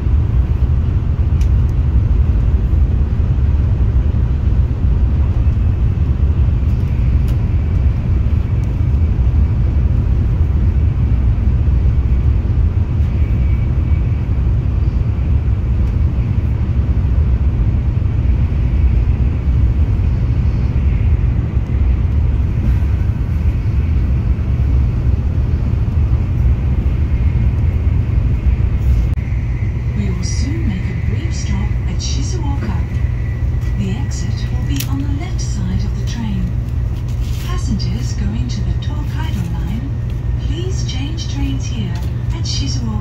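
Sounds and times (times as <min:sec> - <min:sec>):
vehicle rumbling in motion: 0:00.0 - 0:43.0.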